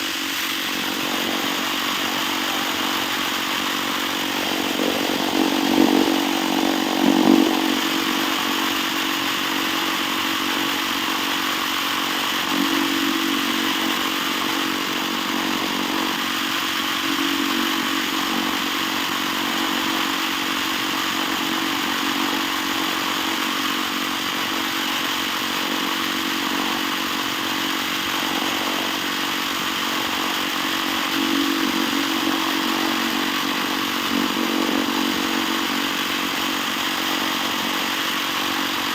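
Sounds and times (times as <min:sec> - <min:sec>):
engine running at high revs: 0:00.0 - 0:38.9.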